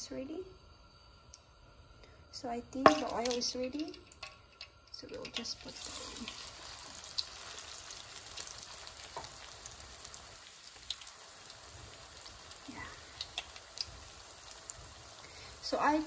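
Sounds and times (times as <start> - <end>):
cutlet sizzling in oil: 2.8 - 16.0.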